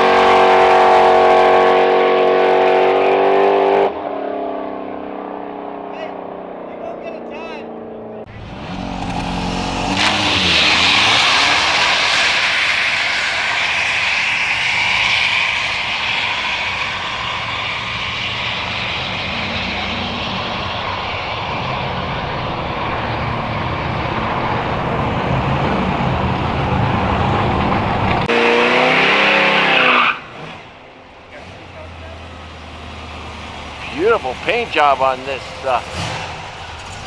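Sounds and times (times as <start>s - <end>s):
car engine at full throttle: 0.0s - 37.0s
engine revving up: 5.9s - 37.0s.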